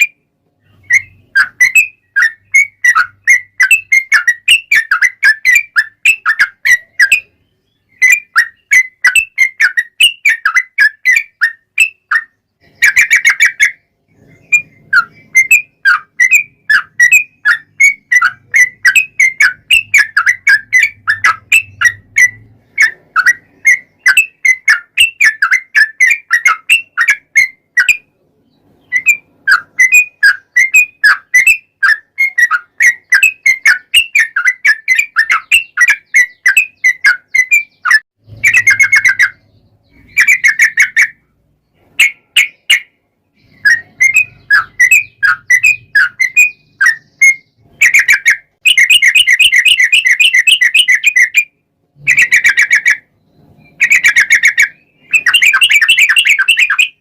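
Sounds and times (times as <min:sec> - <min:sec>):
bird singing chirping phrases: 0:00.0 - 0:57.0.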